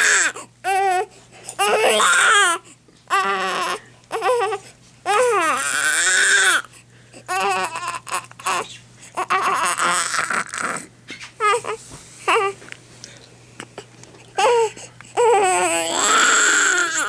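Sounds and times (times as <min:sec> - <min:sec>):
newborn baby crying: 0:00.0 - 0:12.6, 0:13.7 - 0:17.0.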